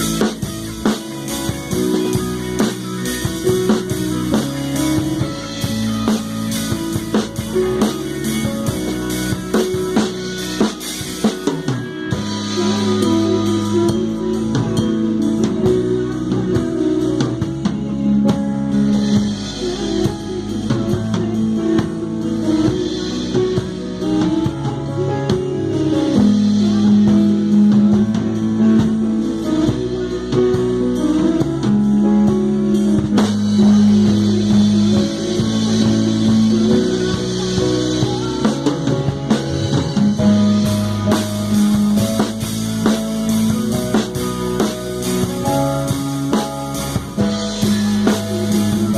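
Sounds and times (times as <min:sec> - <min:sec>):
live rock band playing: 0:00.0 - 0:48.9.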